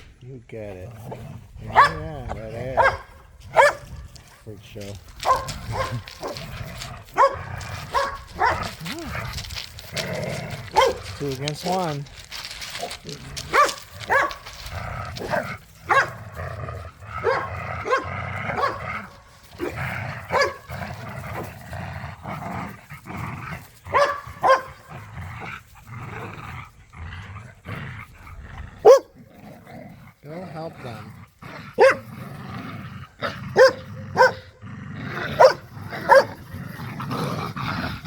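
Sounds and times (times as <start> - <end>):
dogs barking and snarling: 0.0 - 38.0
dogs growling: 0.0 - 38.0.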